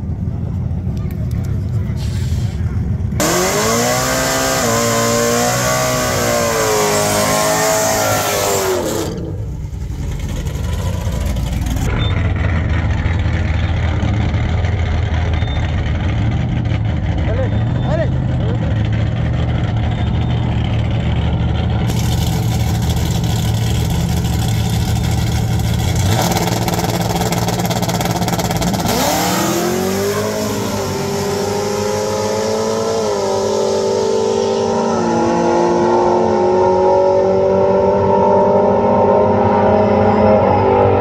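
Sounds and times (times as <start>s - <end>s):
drag racing engines revving: 1.0s - 41.0s
loud rush of launching vehicles: 1.8s - 41.0s.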